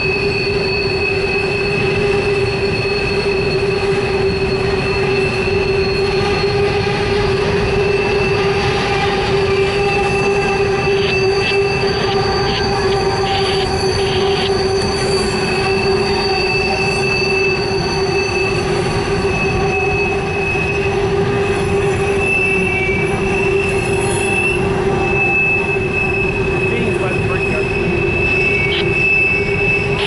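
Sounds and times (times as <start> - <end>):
rumble of wheels on track: 0.0 - 30.0
train wheels squealing: 0.0 - 30.0.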